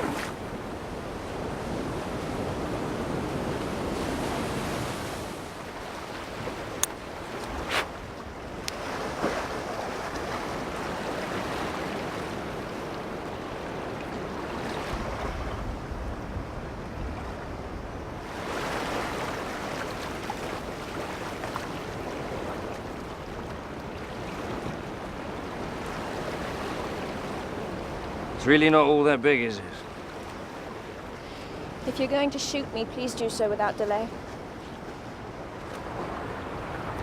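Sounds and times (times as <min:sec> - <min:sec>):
sea waves washing on shore: 0:00.0 - 0:37.0
wind: 0:00.0 - 0:37.0.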